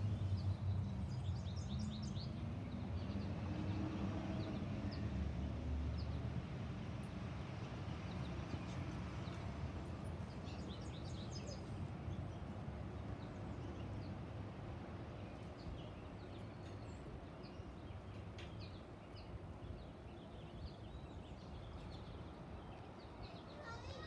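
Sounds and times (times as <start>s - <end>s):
small songbirds chirping: 0.0s - 24.0s.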